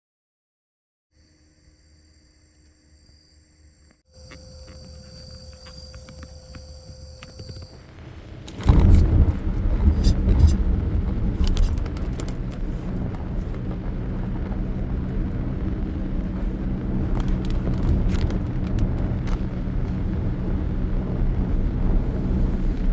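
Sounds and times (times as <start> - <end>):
low mechanical hum: 1.9 - 22.9.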